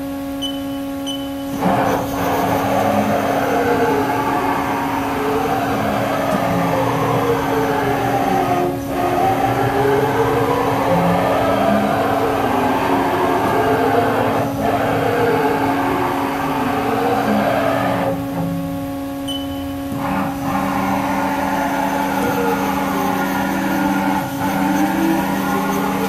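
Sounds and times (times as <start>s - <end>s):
machine whine rising and falling: 0.0s - 26.0s
steady machine hum: 0.0s - 26.0s.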